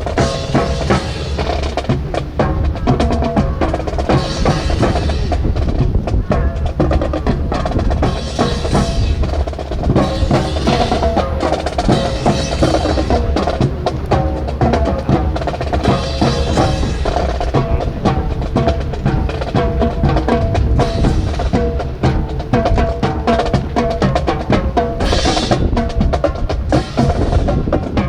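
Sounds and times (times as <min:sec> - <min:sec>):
drum cadence: 0:00.0 - 0:28.0
pitched melody line: 0:00.0 - 0:28.0.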